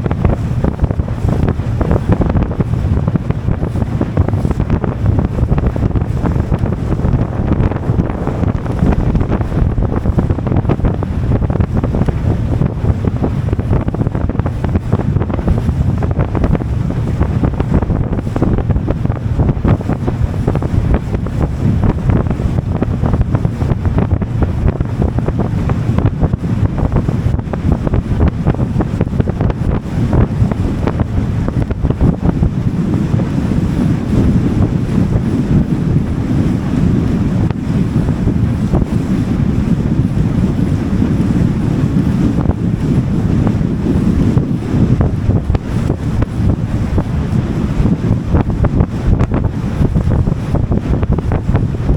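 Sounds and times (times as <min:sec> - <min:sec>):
boat engine running: 0:00.0 - 0:51.9
strong wind buffeting microphone: 0:00.0 - 0:51.9
water noise: 0:00.0 - 0:51.9.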